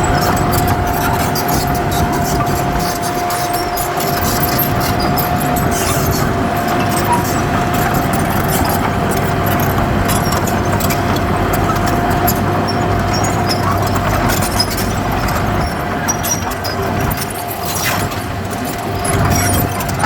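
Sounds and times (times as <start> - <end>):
constant machine whine: 0.0 - 20.0
heavy diesel machinery running: 0.0 - 20.0.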